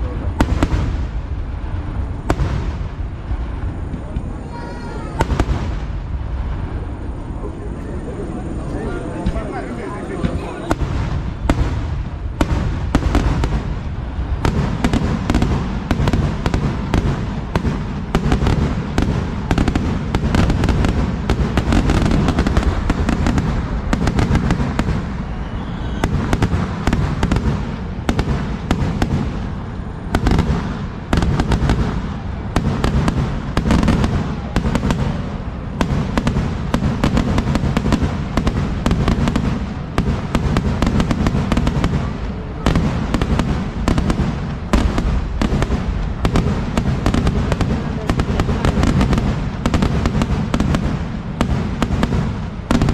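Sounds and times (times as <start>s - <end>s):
fireworks cracking and banging: 0.0s - 52.9s.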